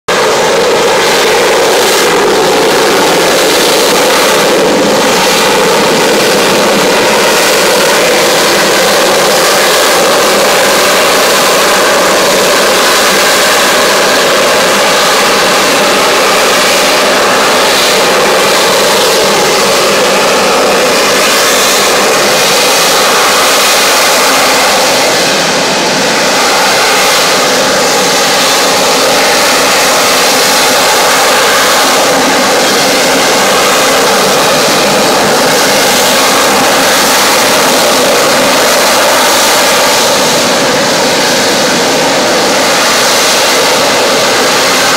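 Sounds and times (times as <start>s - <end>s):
jet engine roaring while hovering: 0.0s - 44.9s.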